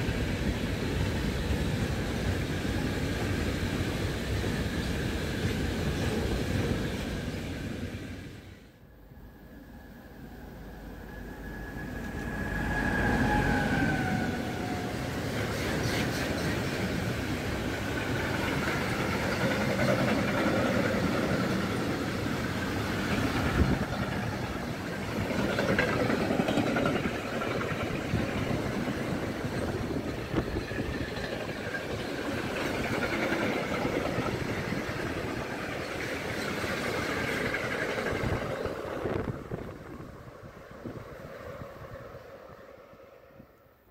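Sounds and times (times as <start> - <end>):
rumble of steel wheels on rail: 0.0 - 43.7.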